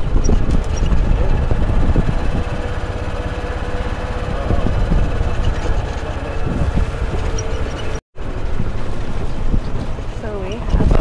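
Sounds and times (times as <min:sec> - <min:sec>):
golf cart driving: 0:00.0 - 0:11.0.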